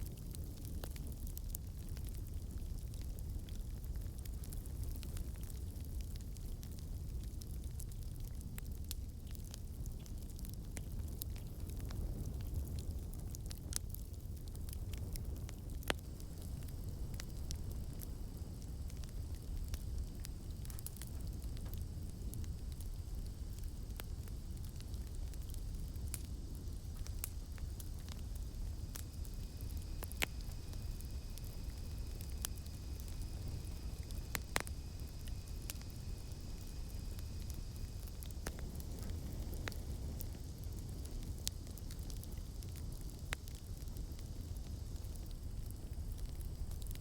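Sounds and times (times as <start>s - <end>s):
campfire crackling and popping: 0.0s - 47.0s
faint cicada drone: 0.0s - 47.0s.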